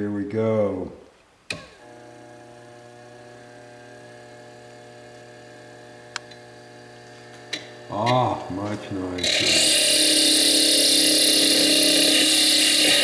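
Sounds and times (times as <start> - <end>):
electric motor humming: 1.8 - 13.0.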